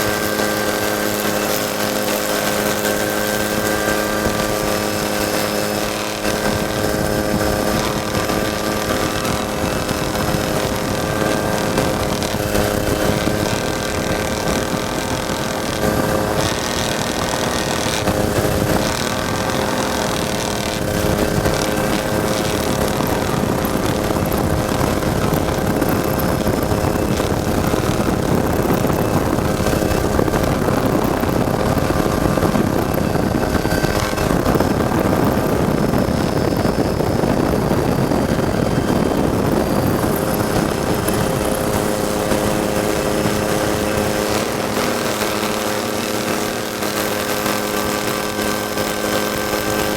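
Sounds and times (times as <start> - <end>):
truck engine running at speed: 0.0 - 49.9.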